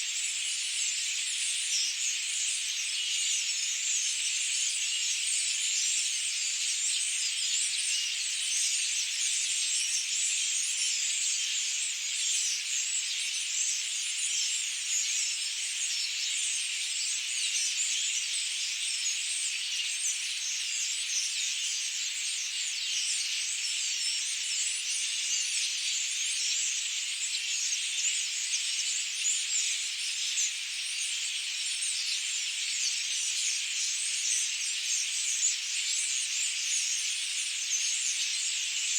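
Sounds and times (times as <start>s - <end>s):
dense high-pitched forest hiss: 0.0s - 38.9s.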